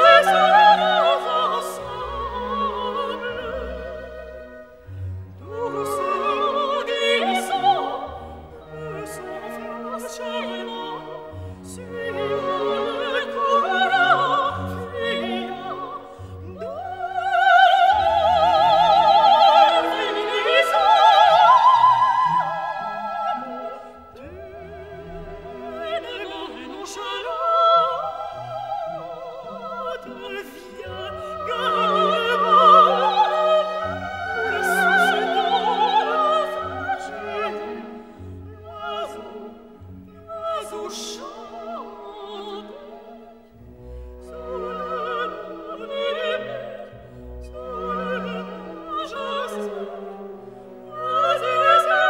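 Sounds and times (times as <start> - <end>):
operatic singing with vibrato: 0.0 - 52.0
orchestral accompaniment: 0.0 - 52.0.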